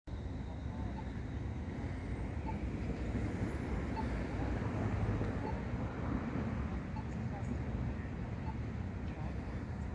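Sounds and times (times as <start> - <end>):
road traffic: 0.1 - 9.9
tram rumbling along track: 0.1 - 9.9.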